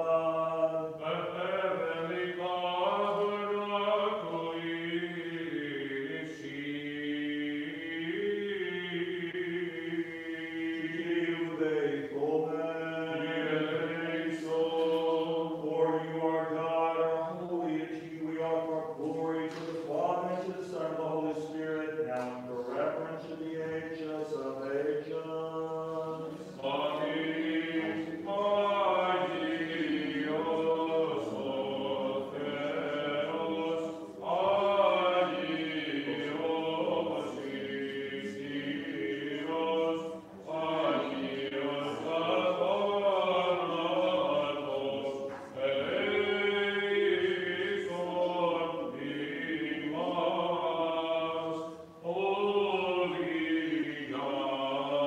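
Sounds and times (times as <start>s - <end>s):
men chanting: 0.0s - 55.0s.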